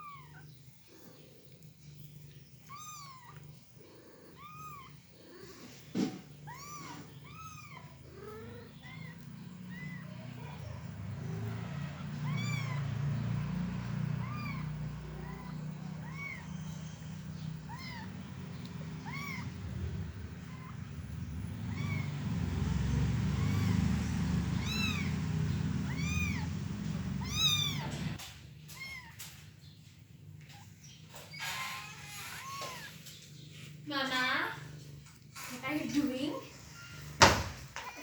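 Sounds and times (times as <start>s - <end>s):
kittens mewing: 0.0s - 29.4s, 30.4s - 38.0s.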